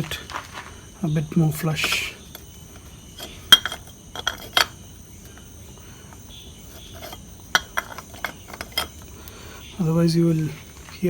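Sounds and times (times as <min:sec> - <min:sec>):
metal engine parts clinking: 0:00.0 - 0:11.0.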